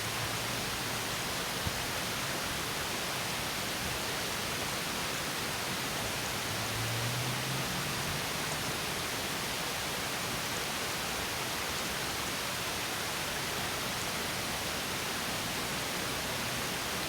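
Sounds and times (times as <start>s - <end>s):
stream over small waterfall: 0.0s - 17.0s.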